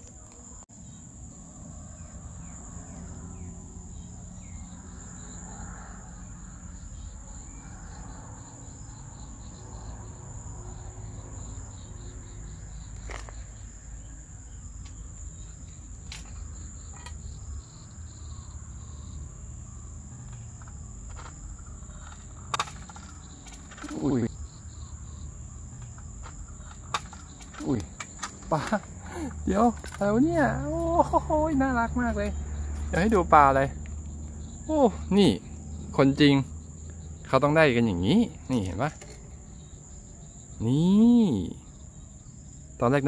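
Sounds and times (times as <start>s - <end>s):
insects shrilling: 2.0s - 43.0s.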